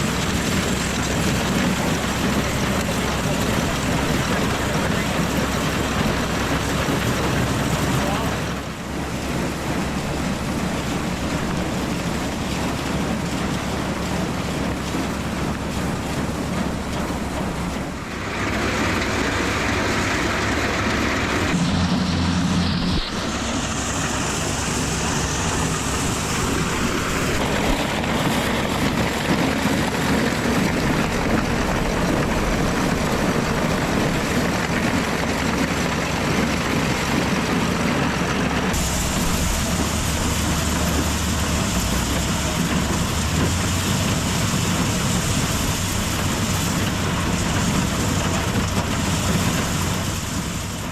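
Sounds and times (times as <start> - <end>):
rush of wind or machinery: 0.0 - 50.9
tractor engine running: 0.0 - 50.9.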